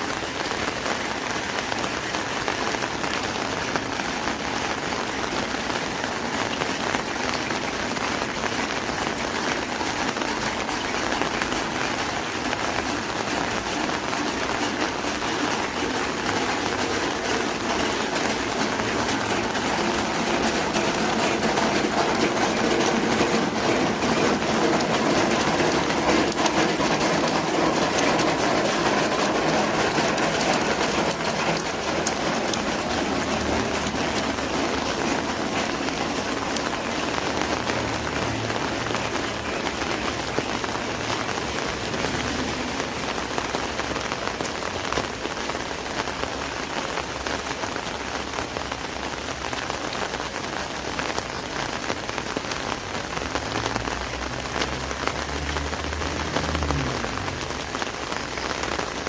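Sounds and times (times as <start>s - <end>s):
rain pattering on an umbrella: 0.0s - 59.0s.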